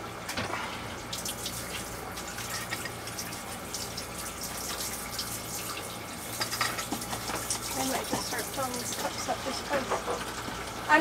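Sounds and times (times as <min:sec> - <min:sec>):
water trickling into bilge: 0:01.0 - 0:10.3.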